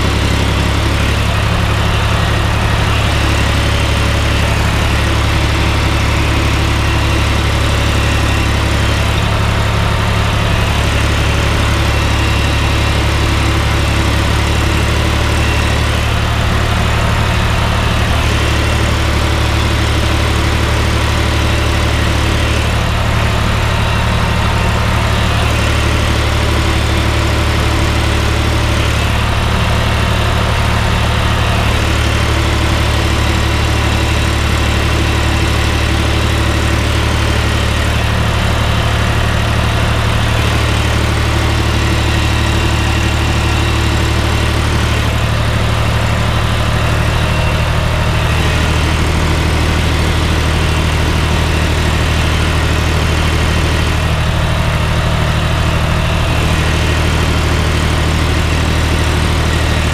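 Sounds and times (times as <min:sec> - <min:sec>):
tractor diesel engine drone: 0:00.0 - 0:59.9.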